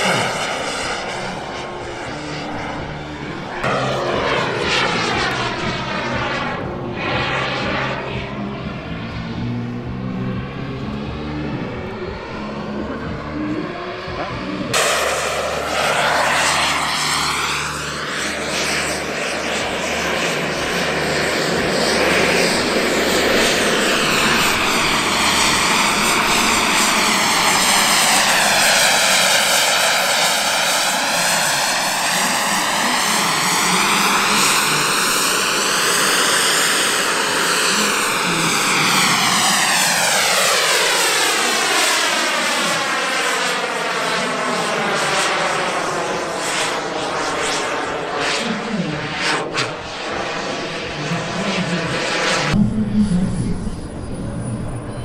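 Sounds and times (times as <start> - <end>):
aircraft engine rush: 0.0 - 55.0.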